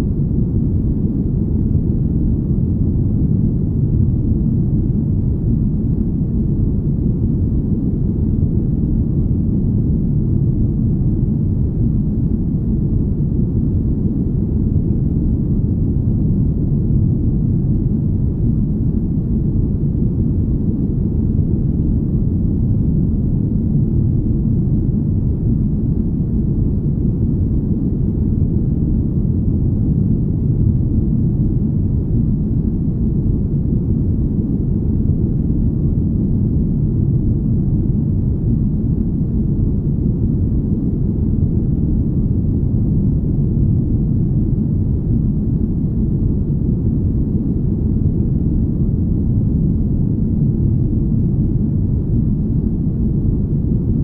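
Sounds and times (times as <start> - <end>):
deep smooth rumble noise: 0.0 - 54.0.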